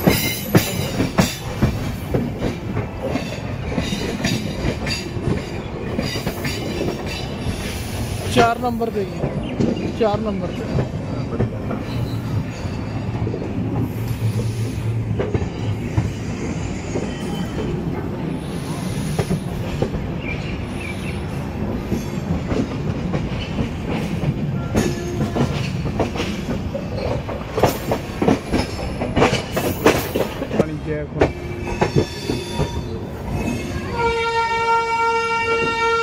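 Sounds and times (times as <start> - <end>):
wheels clacking over rail joints: 0.0 - 34.2
train wheels rumbling on rail: 0.0 - 36.0.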